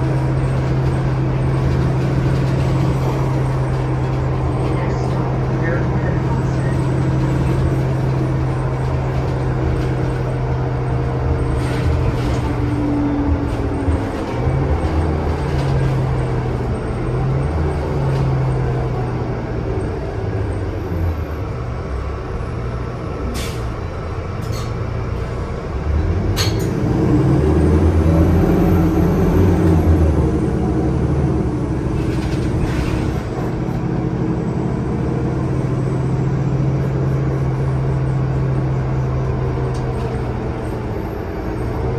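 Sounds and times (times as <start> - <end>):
bus engine hum: 0.0 - 41.9.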